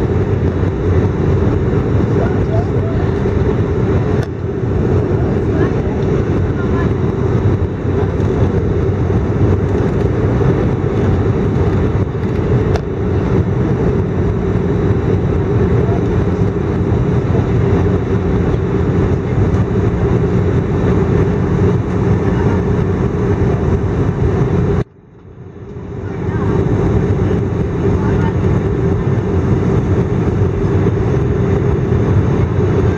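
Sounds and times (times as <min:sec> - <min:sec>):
airliner engines and airflow rushing: 0:00.0 - 0:32.9
constant low hum: 0:00.0 - 0:32.9.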